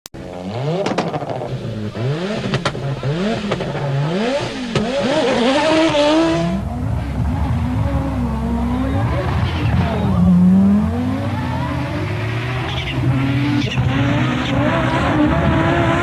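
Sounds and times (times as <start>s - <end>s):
rally car engine accelerating: 0.2s - 16.0s.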